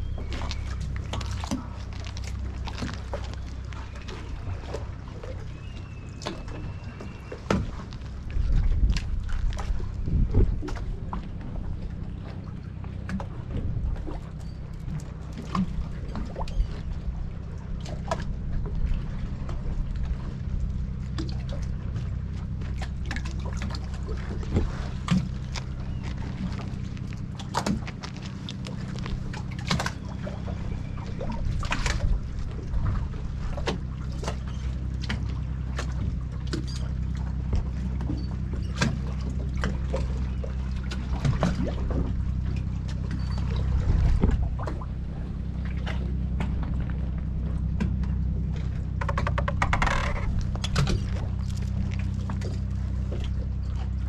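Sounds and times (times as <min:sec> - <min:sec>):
steady low rumble: 0:00.0 - 0:54.0
water lapping against boat hull: 0:00.0 - 0:54.0.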